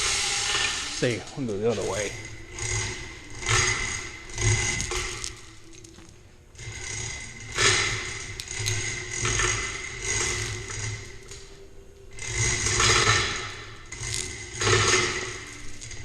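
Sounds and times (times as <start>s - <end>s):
hoist chain rattling and scraping: 0.0s - 11.5s, 12.1s - 16.0s.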